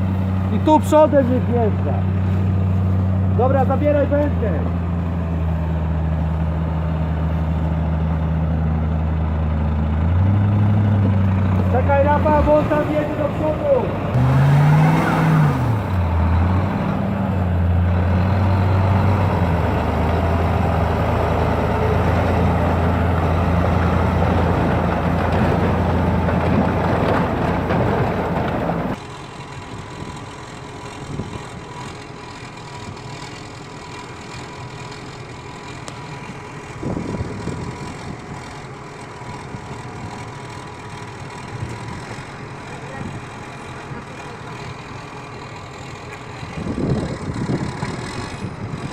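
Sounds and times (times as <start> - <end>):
engine idling: 0.0 - 48.9
heavy vehicle engine running: 0.0 - 48.9.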